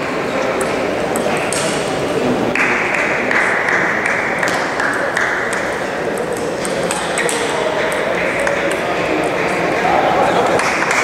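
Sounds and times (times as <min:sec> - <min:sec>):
table tennis balls clicking: 0:00.3 - 0:11.0.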